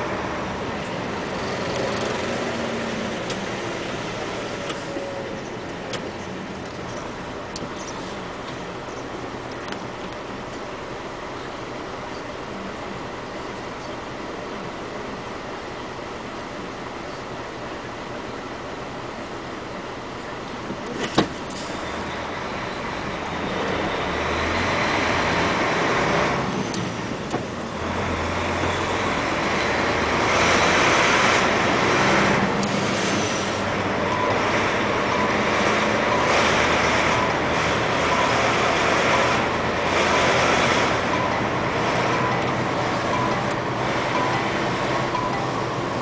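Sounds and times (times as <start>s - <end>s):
road noise: 0.0s - 46.0s
trucks passing: 0.0s - 46.0s
vehicle engine hum: 0.0s - 46.0s.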